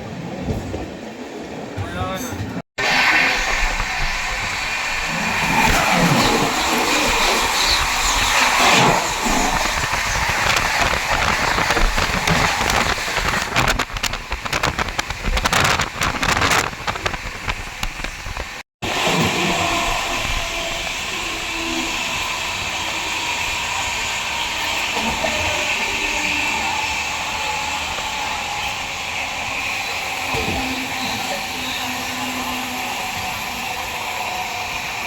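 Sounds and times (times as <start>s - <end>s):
express train running: 0.0s - 35.0s.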